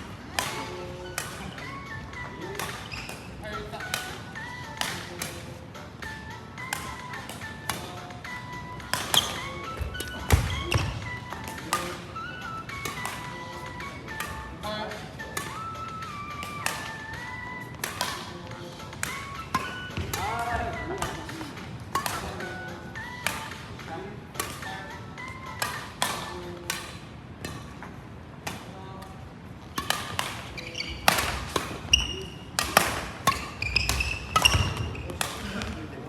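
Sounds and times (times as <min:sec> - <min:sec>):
racket hitting shuttlecock: 0:00.0 - 0:36.0
shoes squeaking on court floor: 0:00.0 - 0:36.0.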